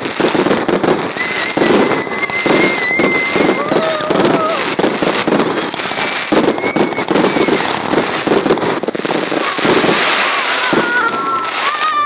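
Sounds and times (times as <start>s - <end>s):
fireworks bangs and crackles: 0.0s - 12.0s
fireworks whistling: 0.0s - 12.0s.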